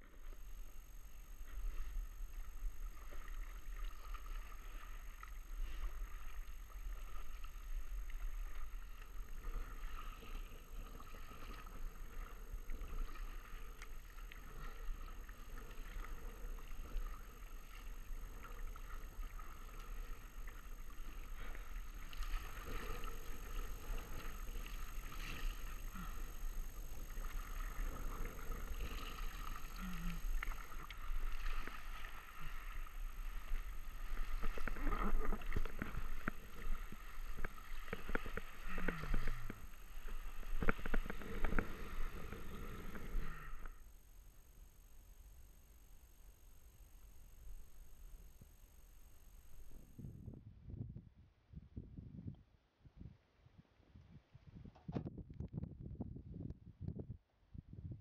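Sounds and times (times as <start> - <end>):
water lapping against a raft: 0.0 - 50.2
steady low rumble: 0.0 - 53.2.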